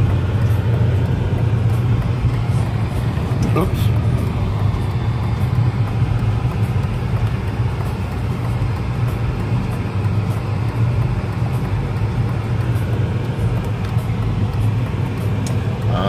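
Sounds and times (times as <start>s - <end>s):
car interior engine hum: 0.0s - 16.0s.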